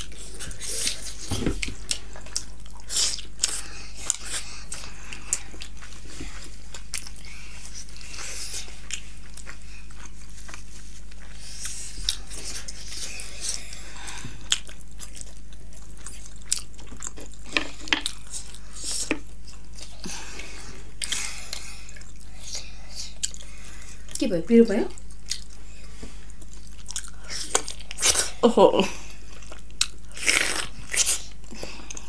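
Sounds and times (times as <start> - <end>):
chewing and wet mouth smacking: 0.0 - 24.2, 24.9 - 28.2, 29.2 - 32.0.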